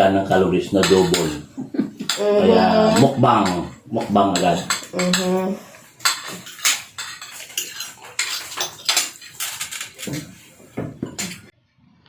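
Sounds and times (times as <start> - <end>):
cutlery clinking on plates: 0.8 - 11.5.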